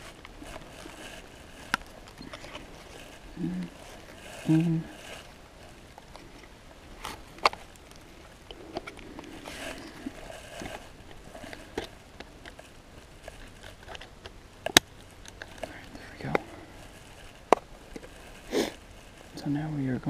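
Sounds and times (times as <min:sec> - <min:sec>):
strap and fleece rustling: 0:00.0 - 0:20.0.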